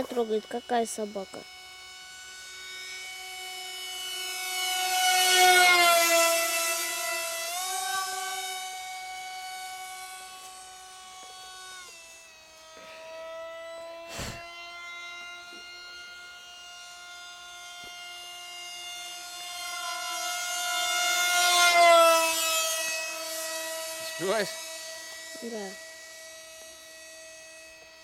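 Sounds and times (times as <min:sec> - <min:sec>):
model plane motor whining: 0:00.0 - 0:28.0.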